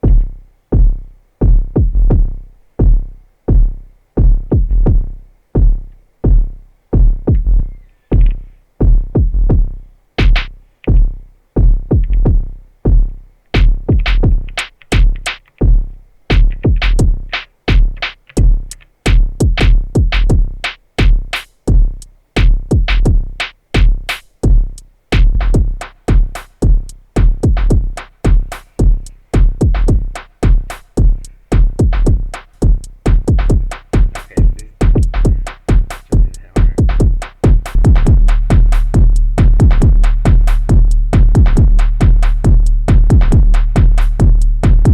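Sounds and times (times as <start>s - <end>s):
drum machine electronic beat: 0.0s - 44.9s.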